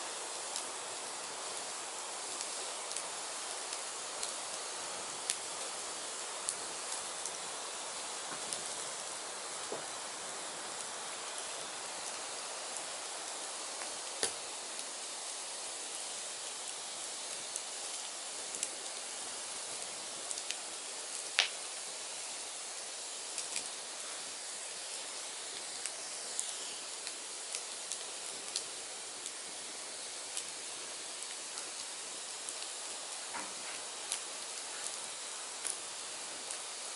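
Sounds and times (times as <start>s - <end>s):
fire crackles and pops: 0.0s - 36.9s
firewood burning hiss: 0.0s - 36.9s.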